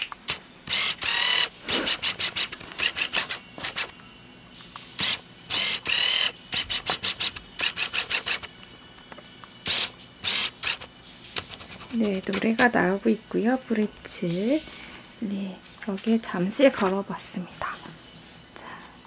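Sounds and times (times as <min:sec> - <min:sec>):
tinny music from earbuds: 0:01.2 - 0:19.0.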